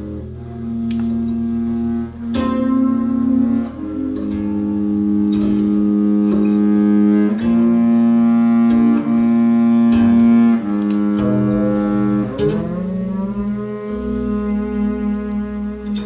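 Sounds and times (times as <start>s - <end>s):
acoustic guitar plucked notes: 0.0s - 16.0s
violin bowed notes: 0.0s - 16.0s.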